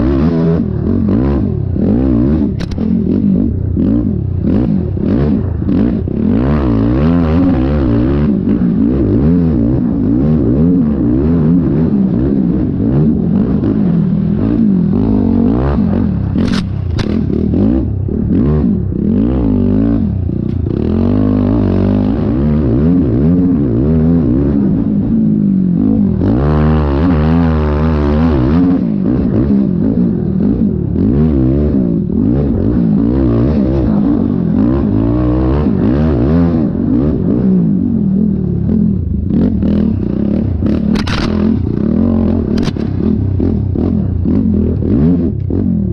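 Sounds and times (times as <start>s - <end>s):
quad engine revving: 0.0s - 45.9s.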